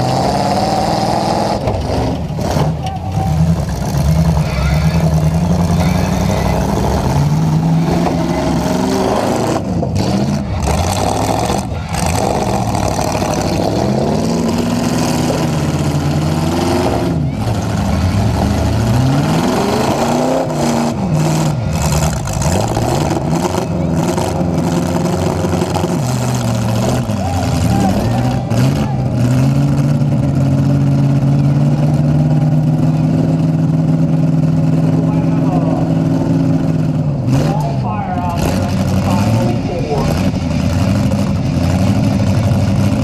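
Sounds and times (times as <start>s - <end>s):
truck engine revving: 0.0s - 43.0s.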